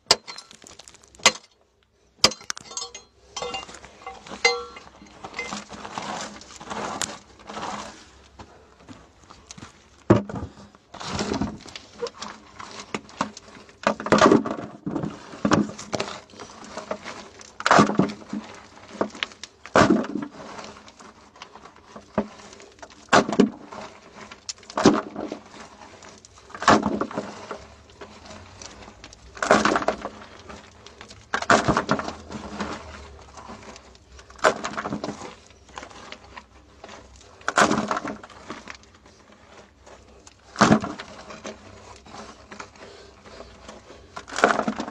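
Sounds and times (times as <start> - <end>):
digging in gravelly soil: 0.0 - 44.9
loose earth rattling: 0.0 - 44.9.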